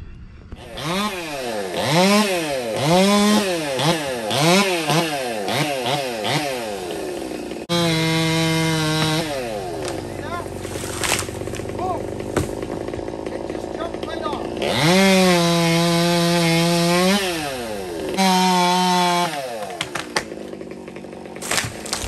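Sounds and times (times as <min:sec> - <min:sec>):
chainsaw revving: 0:00.6 - 0:22.0.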